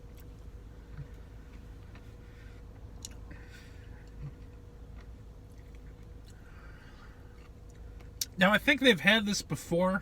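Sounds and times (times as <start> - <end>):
chewing and mouth sounds: 0.0 - 8.4
faint steady hum: 0.0 - 10.0.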